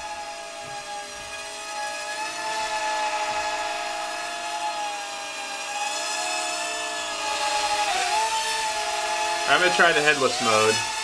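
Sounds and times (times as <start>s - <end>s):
toy drone propellers whining: 0.0s - 11.0s.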